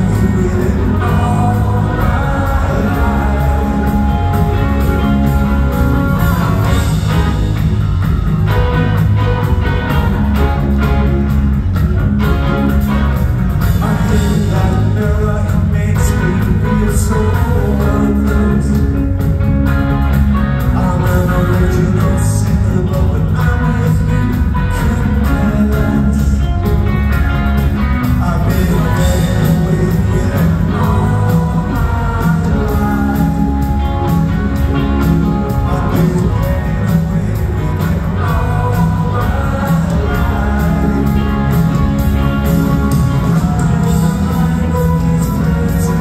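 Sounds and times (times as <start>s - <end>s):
man singing: 0.0s - 7.6s, 13.6s - 19.4s, 20.6s - 27.0s, 28.0s - 46.0s
live rock band playing: 0.0s - 46.0s.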